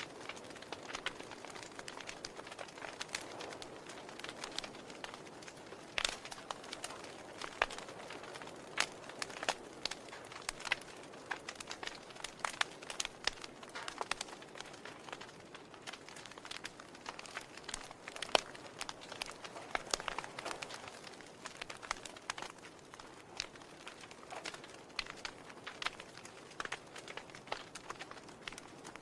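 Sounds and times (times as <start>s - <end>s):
soft fire hiss: 0.0s - 29.0s
wood logs crackling and popping: 0.0s - 29.0s.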